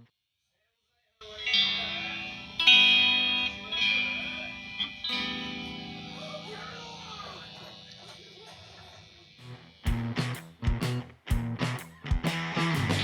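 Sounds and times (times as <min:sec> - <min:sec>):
electric guitar chords strummed: 0:01.4 - 0:13.0.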